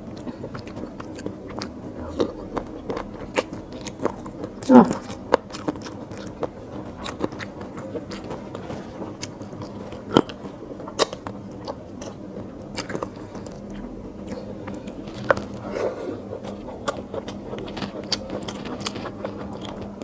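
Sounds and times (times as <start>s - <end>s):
close chewing with crunches: 0.0s - 20.0s.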